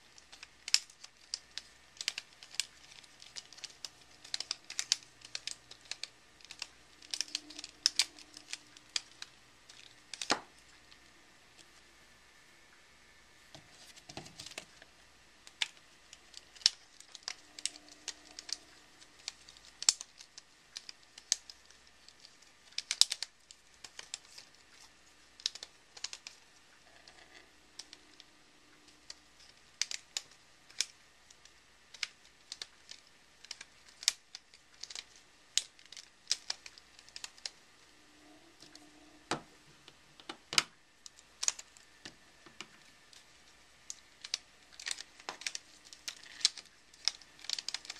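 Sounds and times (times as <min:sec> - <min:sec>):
plastic puzzle segments clicking: 0:00.1 - 0:10.4, 0:15.4 - 0:28.3, 0:28.9 - 0:37.6, 0:40.2 - 0:47.9.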